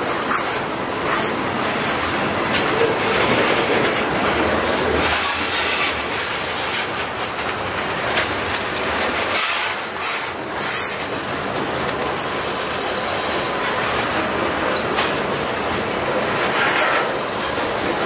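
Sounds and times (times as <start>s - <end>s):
steel wheels on rail: 0.0s - 18.0s
wheels clicking over rail joints: 0.0s - 18.0s.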